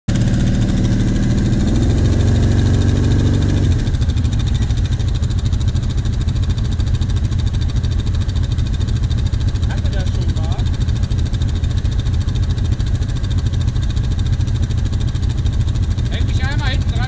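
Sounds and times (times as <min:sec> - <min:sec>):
quad bike engine running: 0:00.1 - 0:17.0.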